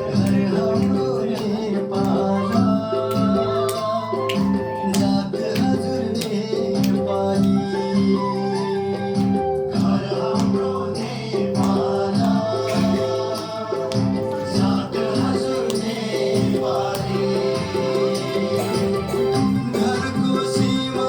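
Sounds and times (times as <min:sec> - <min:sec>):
song with singing: 0:00.0 - 0:21.0.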